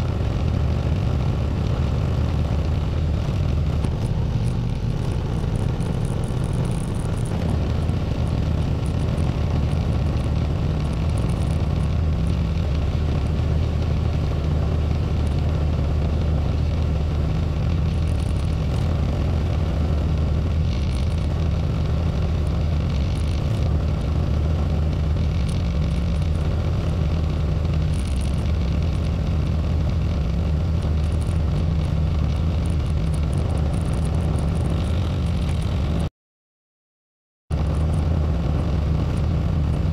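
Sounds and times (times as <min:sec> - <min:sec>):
tractor engine droning: 0:00.0 - 0:36.1.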